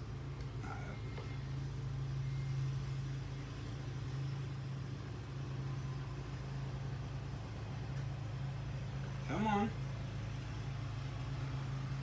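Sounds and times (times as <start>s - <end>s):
electric fan motor humming: 0.0s - 12.0s.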